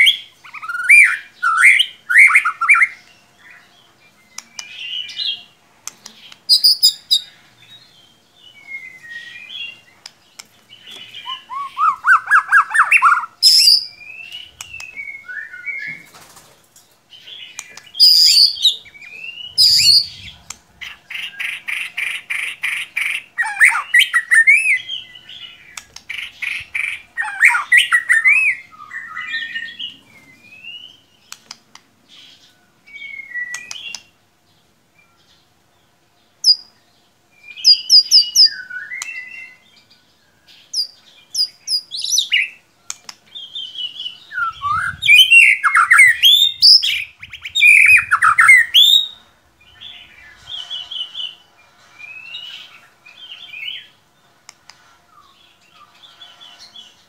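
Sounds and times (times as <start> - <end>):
songbird singing whistles and chatter: 0.0 - 16.2, 17.3 - 31.6, 32.8 - 34.2, 37.4 - 54.0.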